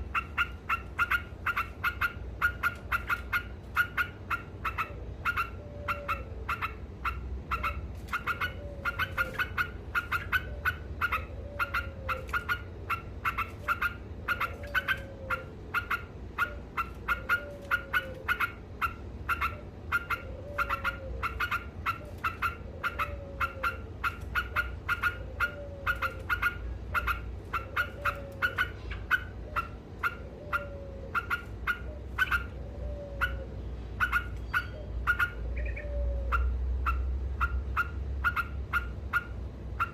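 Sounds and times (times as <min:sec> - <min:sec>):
bird rapid chattering song: 0:00.0 - 0:39.9.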